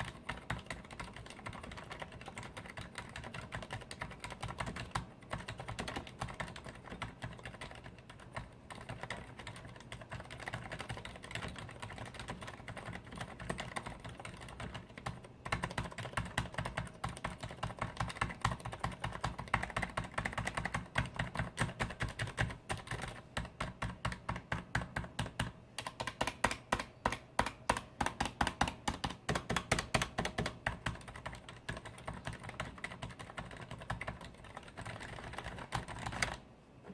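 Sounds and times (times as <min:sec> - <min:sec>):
fast typing on mechanical keyboard: 0:00.0 - 0:36.4.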